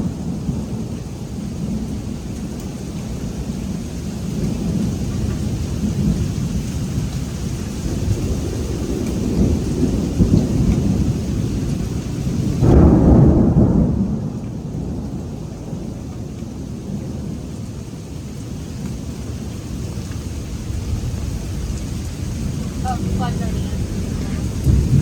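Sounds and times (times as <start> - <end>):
rolling thunder: 0.0 - 25.0
steady rain: 0.0 - 25.0.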